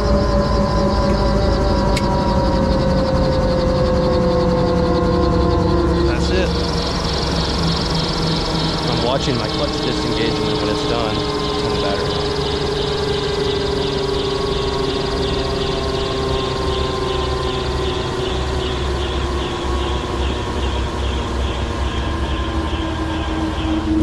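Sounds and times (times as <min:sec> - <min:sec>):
falling whine: 0:00.0 - 0:24.0
helicopter engine and rotor: 0:00.0 - 0:24.0.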